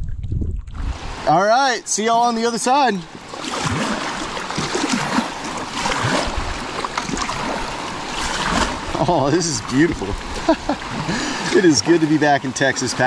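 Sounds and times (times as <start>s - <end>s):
water washing around hull: 0.0s - 13.0s
paddle blades splashing: 0.8s - 13.0s.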